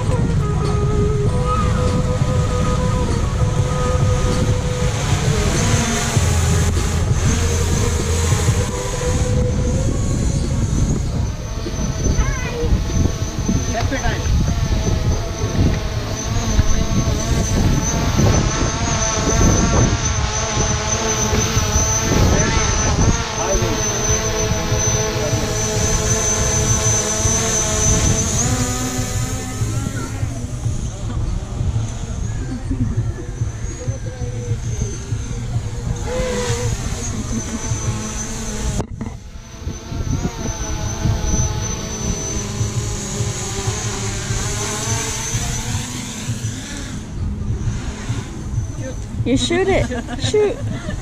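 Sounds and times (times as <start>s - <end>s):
whine of held tones: 0.0s - 49.4s
wind buffeting microphone: 0.0s - 51.0s.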